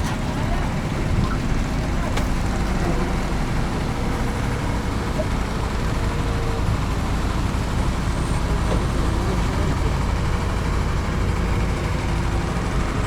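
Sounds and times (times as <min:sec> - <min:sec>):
small engine rumbling: 0:00.0 - 0:13.0.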